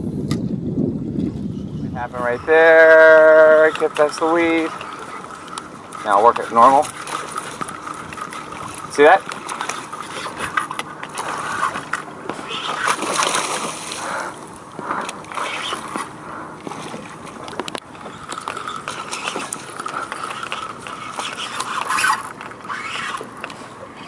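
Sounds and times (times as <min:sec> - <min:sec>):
seawater splashing and sloshing: 0:02.0 - 0:24.0.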